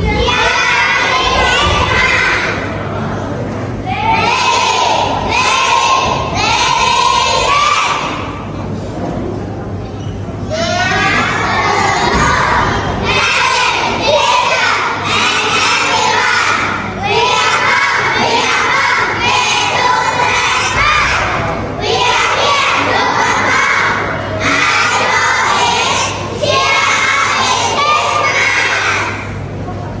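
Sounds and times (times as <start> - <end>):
children shouting and cheering: 0.0 - 2.8, 3.8 - 8.5, 10.5 - 29.5.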